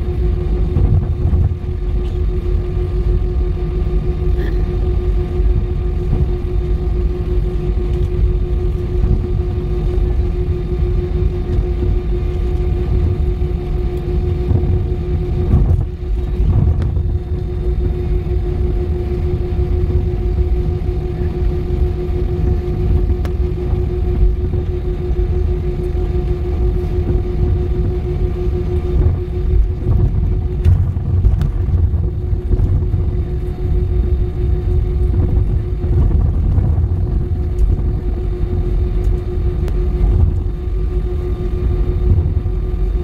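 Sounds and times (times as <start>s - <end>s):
jet engines whining: 0.0s - 43.0s
low cabin rumble: 0.0s - 43.0s.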